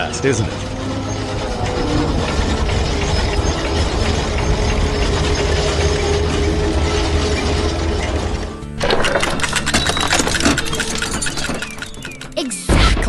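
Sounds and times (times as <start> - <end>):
low engine rumble: 0.0 - 12.4
mechanical rattle: 0.0 - 12.4
clicking rattle: 1.4 - 12.4.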